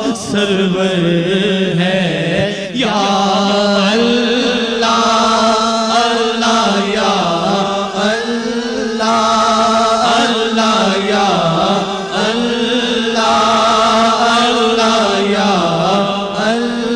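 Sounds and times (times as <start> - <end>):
person singing devotional song: 0.0 - 16.9.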